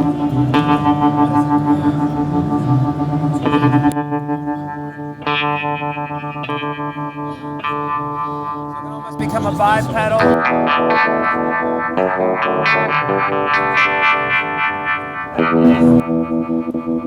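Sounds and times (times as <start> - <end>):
electric guitar chords pulsing: 0.0 - 17.0.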